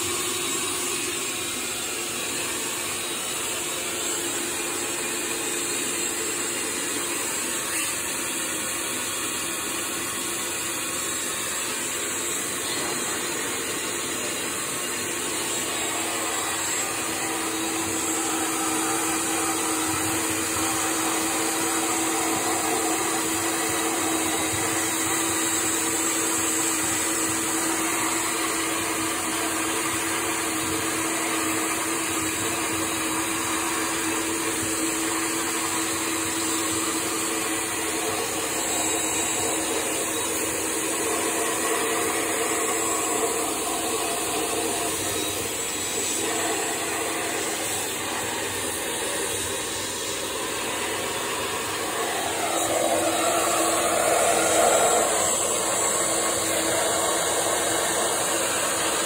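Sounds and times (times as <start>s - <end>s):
small motor whirring: 0.0s - 59.0s.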